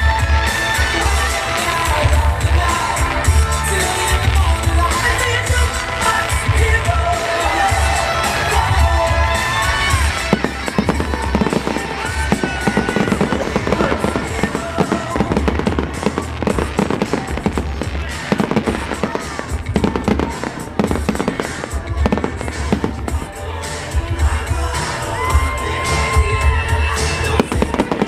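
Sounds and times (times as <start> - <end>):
fireworks bangs and crackles: 0.0 - 28.0
loud music with bass: 0.0 - 28.0.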